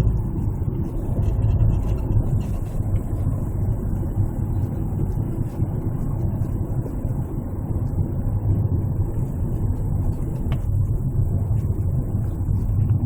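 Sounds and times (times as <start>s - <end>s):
car road and drivetrain rumble: 0.0s - 13.0s.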